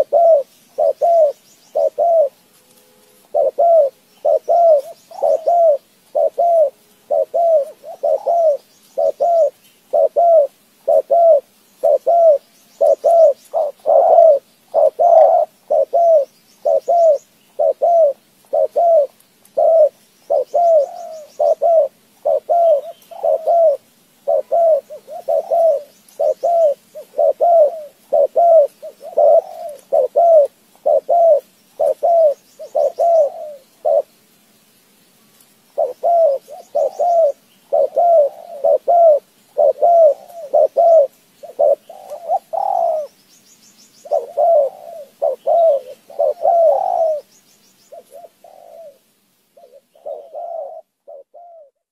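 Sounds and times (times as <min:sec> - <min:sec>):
faint high bird chirps: 0:00.0 - 0:34.2, 0:35.7 - 0:49.0, 0:49.6 - 0:51.9.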